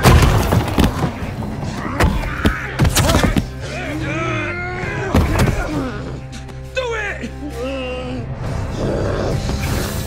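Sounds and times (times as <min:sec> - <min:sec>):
dramatic film score: 0:00.0 - 0:10.0.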